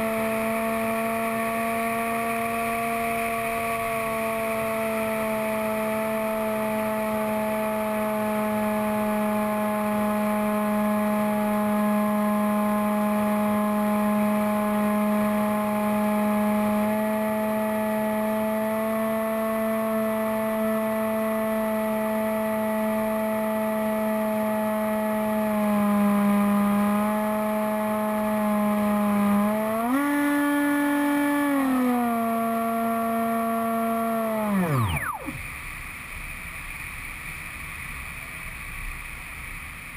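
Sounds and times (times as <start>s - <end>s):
electric motor and propeller whine: 0.0s - 39.7s.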